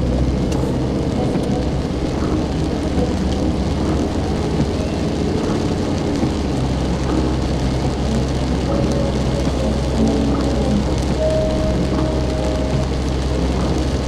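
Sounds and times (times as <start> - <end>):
car driving on wet road: 0.0 - 14.0.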